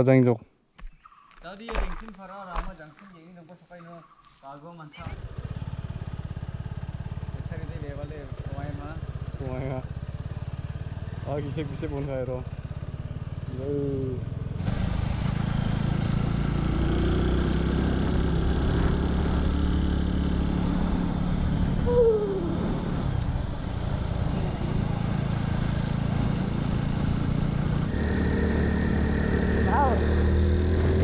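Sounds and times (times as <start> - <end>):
motorcycle engine cruising: 4.8 - 31.0.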